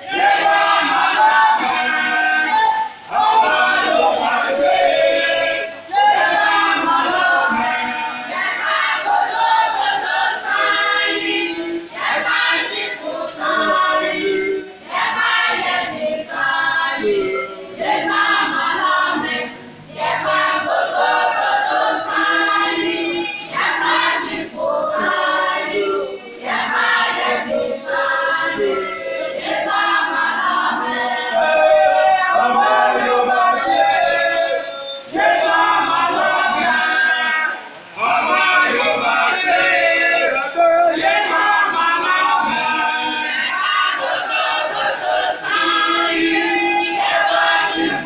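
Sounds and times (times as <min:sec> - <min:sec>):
women and children singing: 0:00.0 - 0:48.0.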